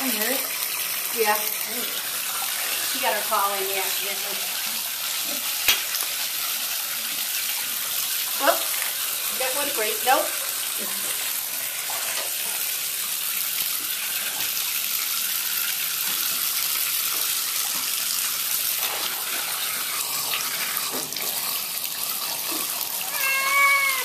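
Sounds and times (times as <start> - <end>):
bathtub tap running: 0.0 - 24.0
water splashing into tub: 0.0 - 24.0.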